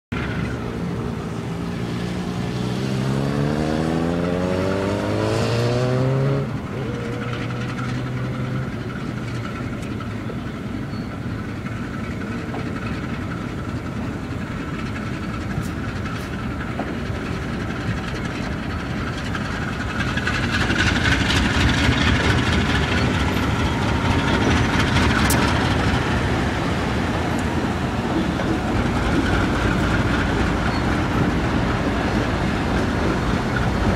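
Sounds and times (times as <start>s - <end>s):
locomotive rumble: 0.1s - 33.9s
train wheel noise: 0.1s - 33.9s
locomotive engine note rising: 0.2s - 33.9s.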